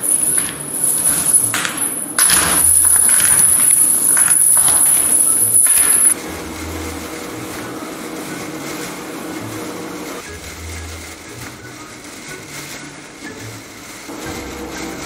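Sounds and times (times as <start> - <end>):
rope and stones scraping: 0.0 - 13.0
hand brushing artificial grass: 2.7 - 15.0.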